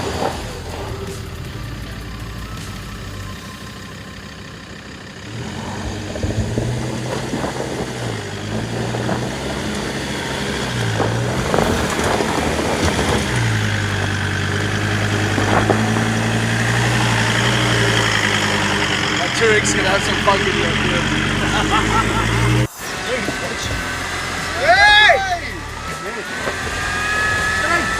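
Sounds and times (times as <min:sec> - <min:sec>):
vehicle engine labouring: 0:00.0 - 0:27.9.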